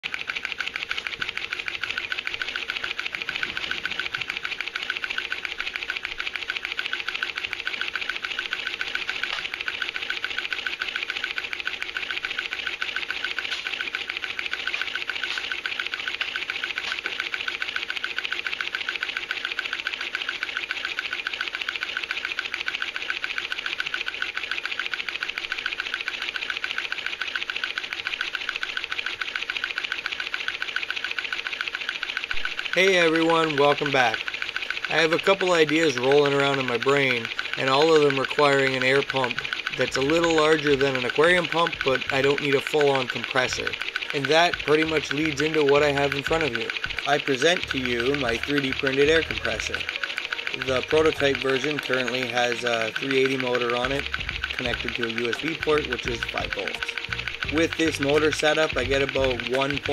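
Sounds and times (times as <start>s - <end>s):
piston air pump chattering: 0.0s - 59.9s.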